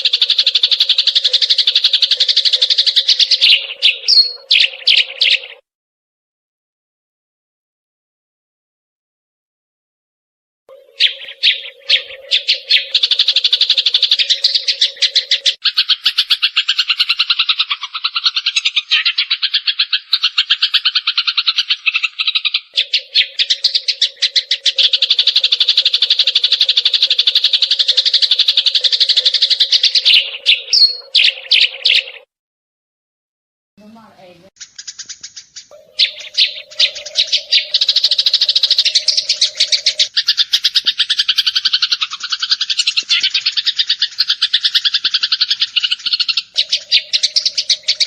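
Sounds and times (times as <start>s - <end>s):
sparrow chirping: 0.0s - 5.6s, 10.7s - 32.3s, 33.8s - 48.0s.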